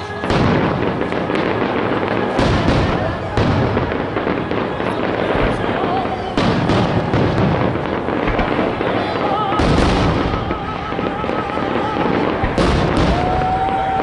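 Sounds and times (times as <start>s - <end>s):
fireworks booms and crackling: 0.0s - 14.0s
sharp fireworks bangs: 0.0s - 14.0s.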